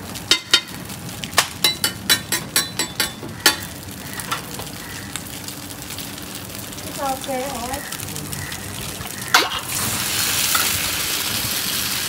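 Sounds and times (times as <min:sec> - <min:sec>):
steady frying sizzle: 0:00.0 - 0:12.0.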